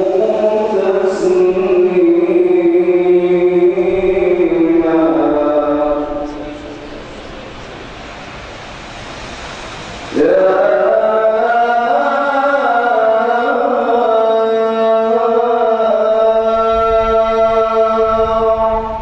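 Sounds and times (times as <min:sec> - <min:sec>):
man chanting into a microphone: 0:00.0 - 0:07.6, 0:10.1 - 0:19.0
steady hiss: 0:00.0 - 0:19.0.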